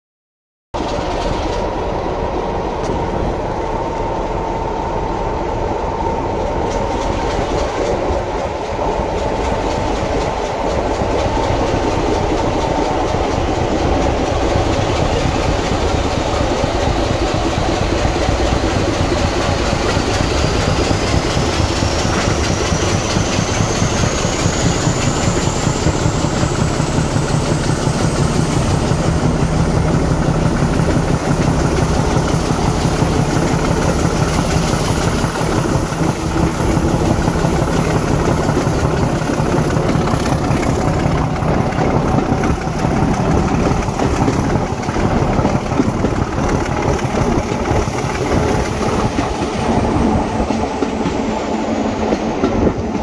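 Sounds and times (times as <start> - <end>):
diesel locomotive engine working hard: 0.8 - 53.0.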